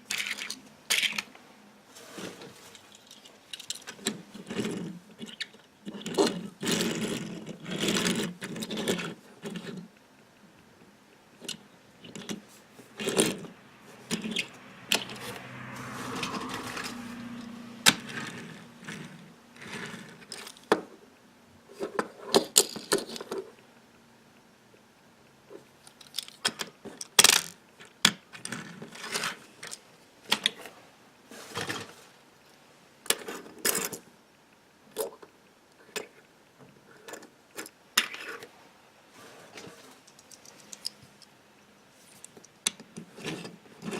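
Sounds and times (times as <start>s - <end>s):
toy cars clicking and scraping: 0.0s - 1.4s, 2.0s - 10.0s, 11.3s - 20.9s, 21.7s - 23.6s, 25.5s - 32.1s, 33.0s - 34.1s, 34.9s - 38.6s, 39.2s - 41.3s, 41.9s - 43.9s.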